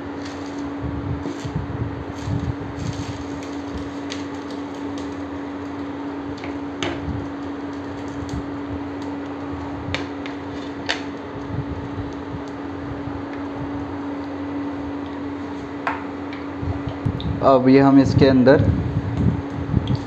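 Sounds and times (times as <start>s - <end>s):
induction cooktop hum: 0.0s - 20.0s.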